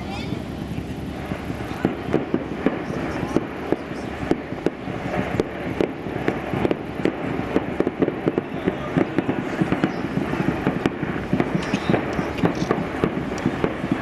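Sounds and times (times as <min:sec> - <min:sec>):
fireworks bangs and pops: 0:00.0 - 0:14.0.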